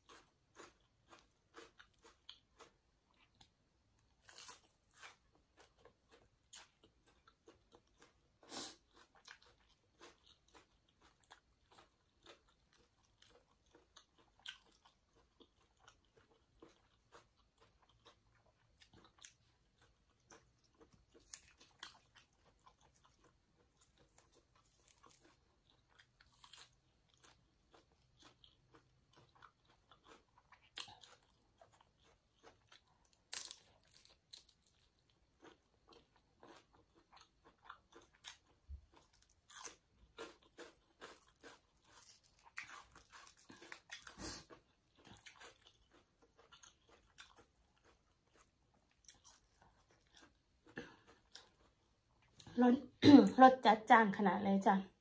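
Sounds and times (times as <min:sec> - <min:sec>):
close chewing and crunching: 0:00.0 - 0:52.7.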